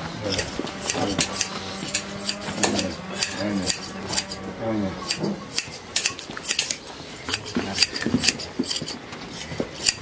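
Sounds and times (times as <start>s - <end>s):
shears snipping fleece: 0.0s - 9.0s, 9.8s - 10.0s.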